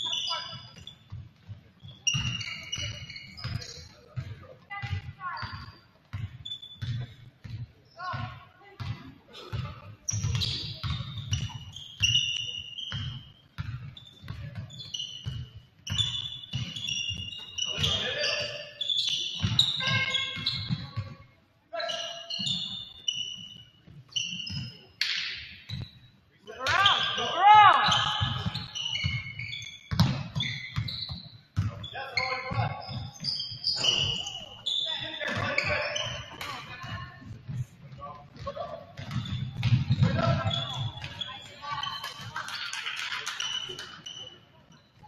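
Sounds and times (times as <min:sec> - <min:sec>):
basketball bouncing on gym floor: 0:00.0 - 0:21.3, 0:22.4 - 0:26.0, 0:26.6 - 0:34.4, 0:35.0 - 0:44.0
sneaker squeaks on hardwood: 0:00.0 - 0:42.4, 0:43.3 - 0:45.0.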